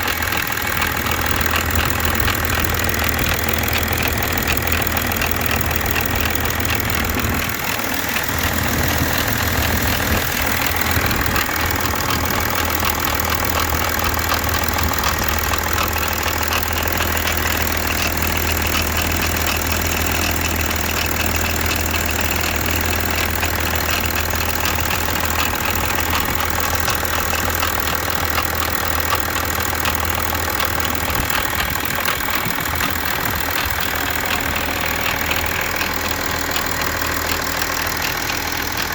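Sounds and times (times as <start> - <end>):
diesel engine idling with ticking: 0.0 - 38.9.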